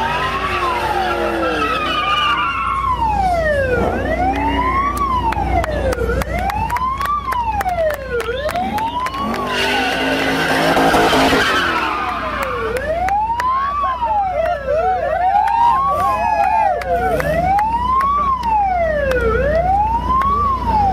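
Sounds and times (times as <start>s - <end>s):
cars doing burnouts: 0.0s - 20.9s
police siren wailing: 0.0s - 20.9s.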